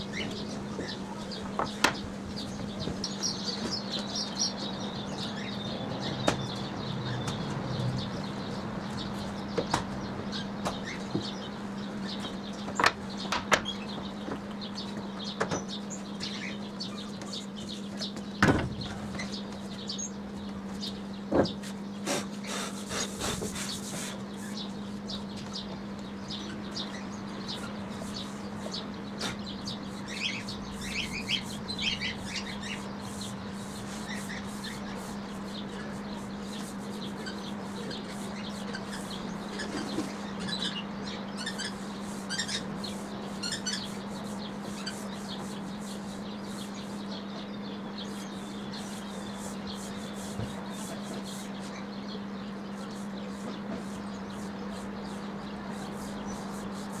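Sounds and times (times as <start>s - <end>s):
birds chirping: 0.0s - 57.0s
steady low hum: 0.0s - 57.0s.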